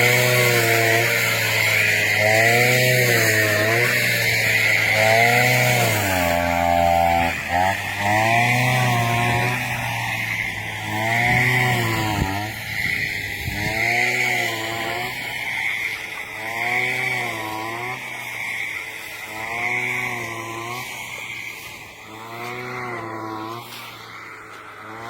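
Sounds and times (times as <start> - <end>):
brush cutter engine: 0.0 - 25.0.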